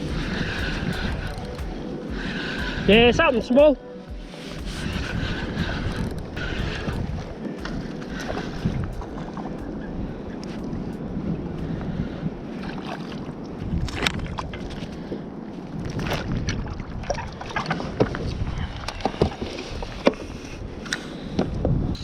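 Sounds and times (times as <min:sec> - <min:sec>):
water splashing against kayak hull: 0:00.0 - 0:20.6
wind buffeting microphone: 0:00.0 - 0:22.0.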